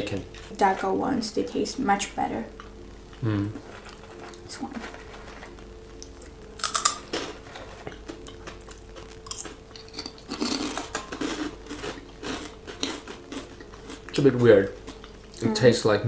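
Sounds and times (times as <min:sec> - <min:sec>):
crunchy chewing: 0:00.0 - 0:01.8, 0:02.5 - 0:15.9.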